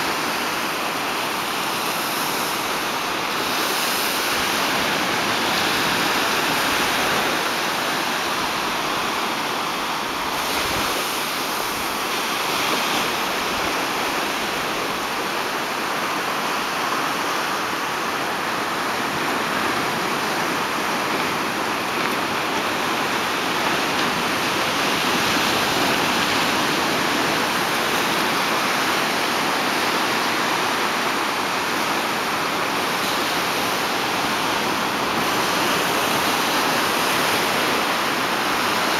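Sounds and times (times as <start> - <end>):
small waves breaking on shore: 0.0 - 38.9.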